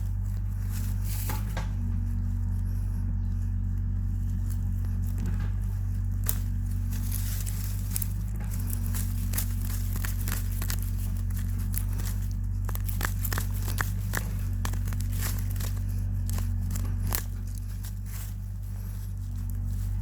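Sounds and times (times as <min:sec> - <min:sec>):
branch scraping in soil: 0:00.0 - 0:20.0
crackling and snapping clicks: 0:00.0 - 0:20.0
steady low hum: 0:00.0 - 0:20.0.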